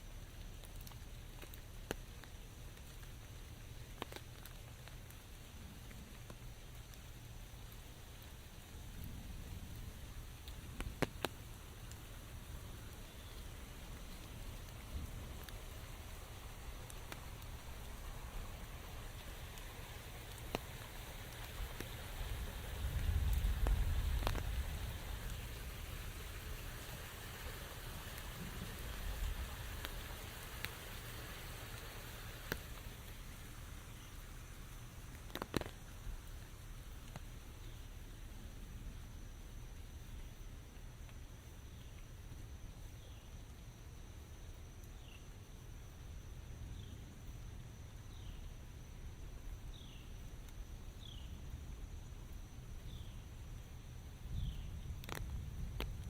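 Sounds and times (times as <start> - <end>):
heavy raindrops striking close: 0.0 - 45.0, 45.6 - 56.0
steady rain falling: 0.0 - 56.0
high insect drone: 9.5 - 56.0.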